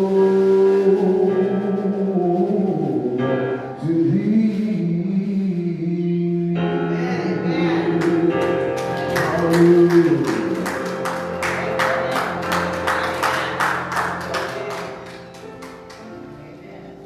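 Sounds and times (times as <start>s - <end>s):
instrumental accompaniment with steady beat: 0.0s - 16.4s.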